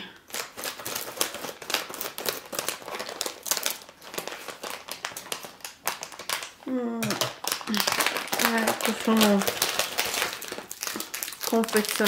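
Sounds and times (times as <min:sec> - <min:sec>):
snack wrapper crinkling: 0:00.3 - 0:12.0.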